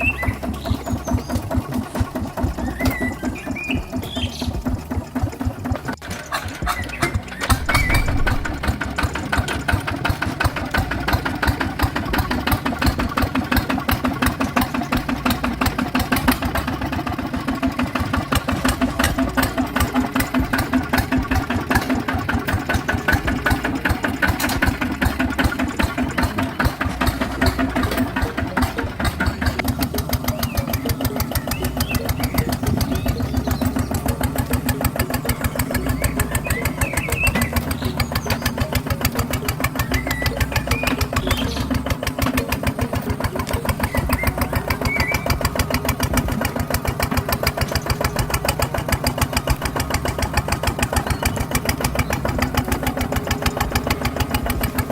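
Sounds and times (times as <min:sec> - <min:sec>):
small engine puttering: 0:00.0 - 0:54.9.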